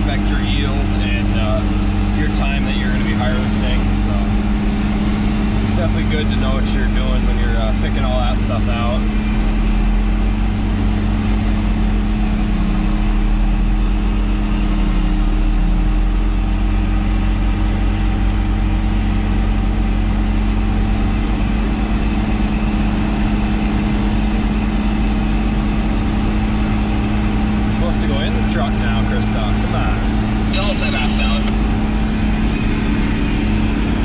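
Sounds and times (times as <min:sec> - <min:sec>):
diesel engines droning: 0:00.0 - 0:34.0.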